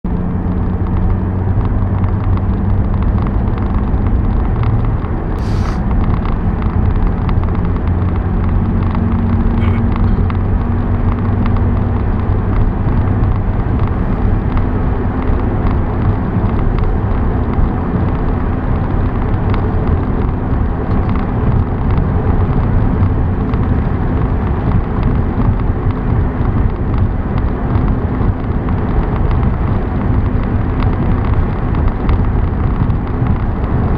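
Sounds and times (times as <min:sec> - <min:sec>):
car engine hum and road rumble: 0:00.0 - 0:33.9.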